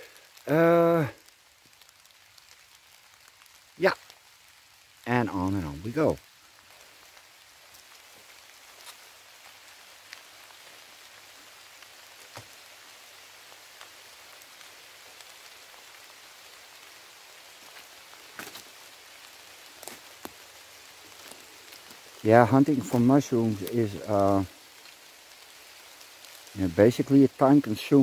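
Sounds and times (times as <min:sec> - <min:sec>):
rain falling: 0:00.0 - 0:28.0
raindrops pattering close by: 0:00.0 - 0:28.0.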